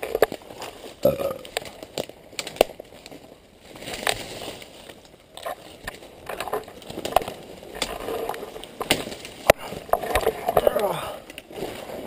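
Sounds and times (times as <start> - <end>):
footsteps through dry brush: 0.0 - 9.9
twigs snapping underfoot: 0.0 - 12.0.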